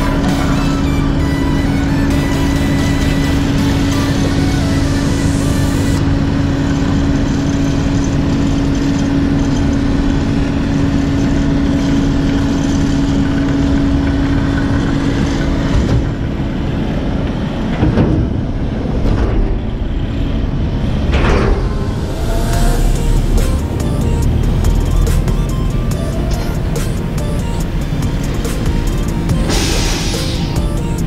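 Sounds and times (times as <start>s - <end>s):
diesel truck engine humming: 0.0s - 31.0s
rough engine knocks and surges: 0.0s - 31.0s.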